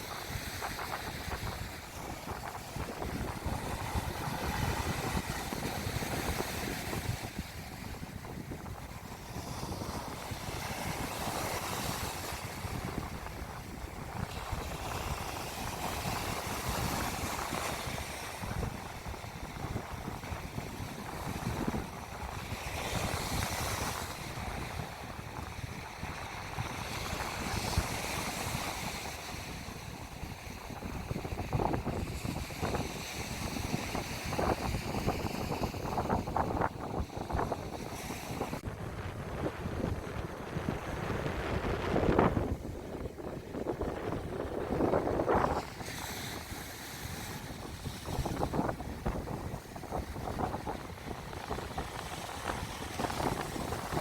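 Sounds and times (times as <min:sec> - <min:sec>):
sea waves washing onto beach: 0:00.0 - 0:54.0
wind buffeting microphone: 0:00.0 - 0:54.0.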